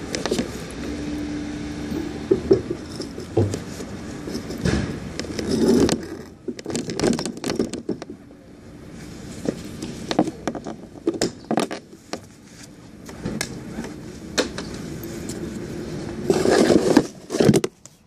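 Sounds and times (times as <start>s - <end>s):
scooter clicks and scraping rattles: 0.0s - 1.0s, 1.9s - 8.2s, 9.5s - 18.0s
low engine tone: 0.0s - 17.3s.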